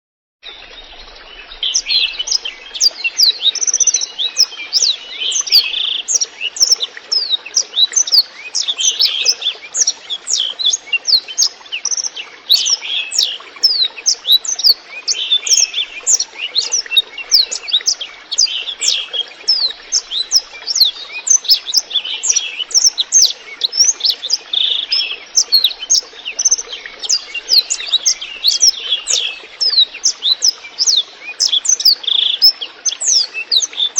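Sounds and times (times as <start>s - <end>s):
water trickling: 0.4s - 33.9s
canary singing: 1.6s - 33.9s.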